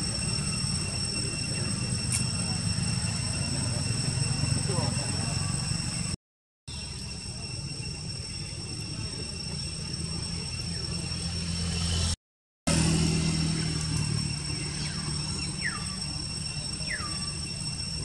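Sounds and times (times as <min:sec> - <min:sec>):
high-pitched whine: 0:00.0 - 0:18.0.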